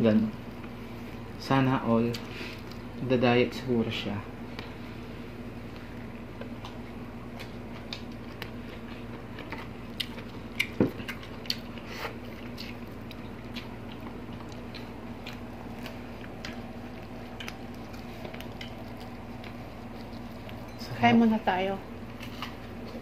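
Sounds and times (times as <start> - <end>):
steady low hum: 0.0 - 23.0
people chewing with wet clicks: 0.1 - 3.1, 5.6 - 23.0.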